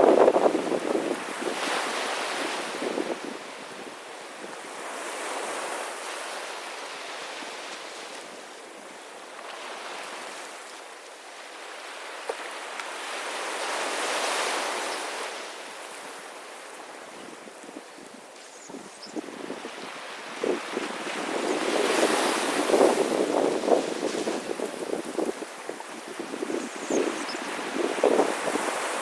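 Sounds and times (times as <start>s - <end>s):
sea waves breaking on beach: 0.0s - 17.9s, 19.2s - 29.0s.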